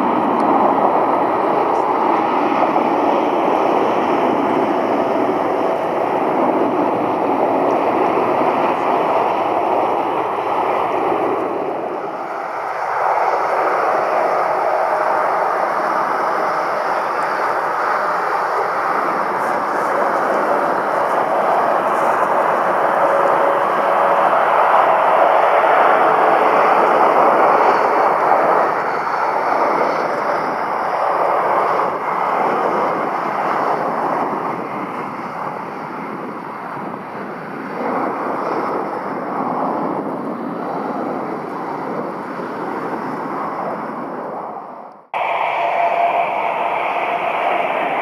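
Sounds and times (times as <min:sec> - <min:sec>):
jet engines idling: 0:00.0 - 0:48.0.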